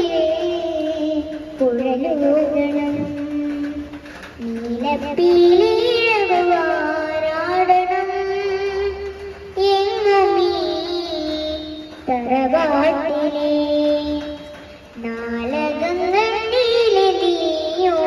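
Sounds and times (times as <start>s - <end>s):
girl singing: 0.0s - 18.0s.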